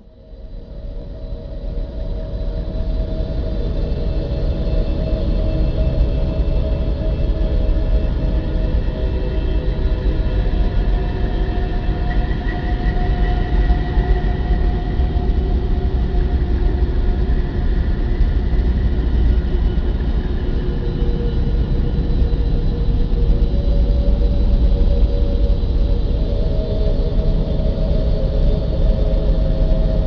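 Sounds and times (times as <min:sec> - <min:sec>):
deep rumbling drone: 0:00.0 - 0:30.0.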